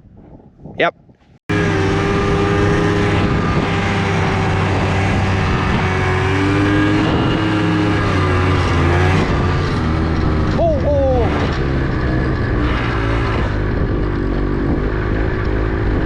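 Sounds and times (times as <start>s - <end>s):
snowmobile engine running: 1.5s - 16.0s.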